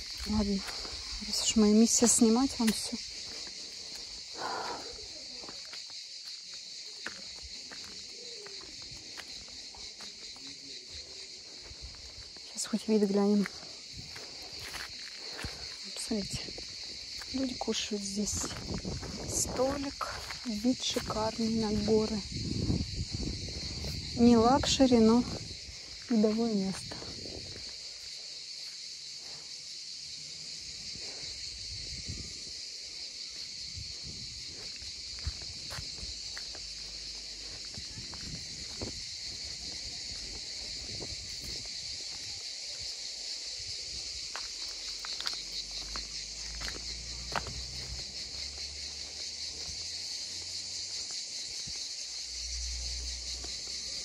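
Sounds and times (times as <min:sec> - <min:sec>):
cicada chorus buzzing: 0:00.0 - 0:54.0
soft footsteps on a path: 0:00.0 - 0:54.0.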